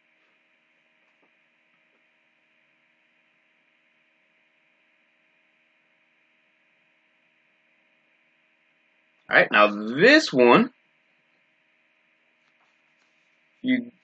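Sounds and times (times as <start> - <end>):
faint electrical hum and hiss: 0.0 - 14.0.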